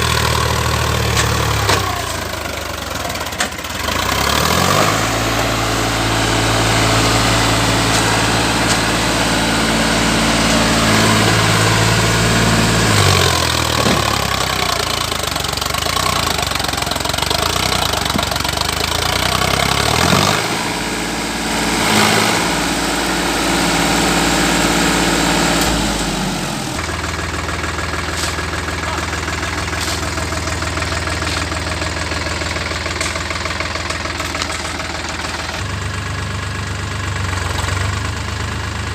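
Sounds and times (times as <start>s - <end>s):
tractor diesel engine running hard: 0.0s - 38.9s.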